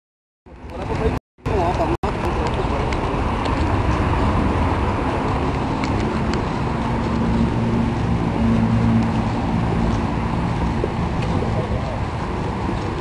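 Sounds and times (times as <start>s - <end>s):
low engine hum: 0.5s - 13.0s
vehicle rumble: 0.5s - 13.0s.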